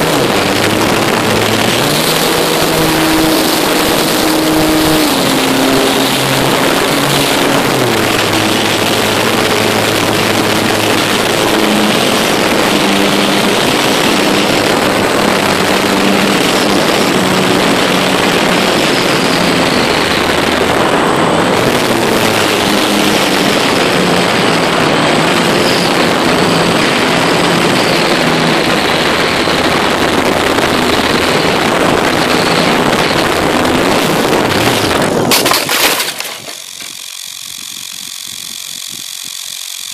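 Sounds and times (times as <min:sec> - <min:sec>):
electric motors and propellers whining: 0:00.0 - 0:39.9
wind rush on microphone: 0:00.0 - 0:39.9.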